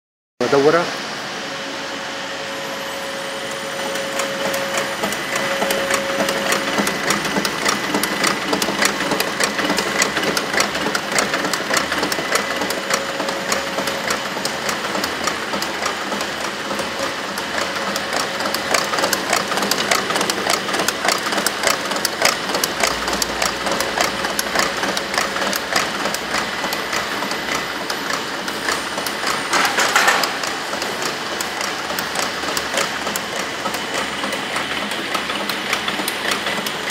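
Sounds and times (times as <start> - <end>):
wrapping machine clattering: 3.9 - 36.9.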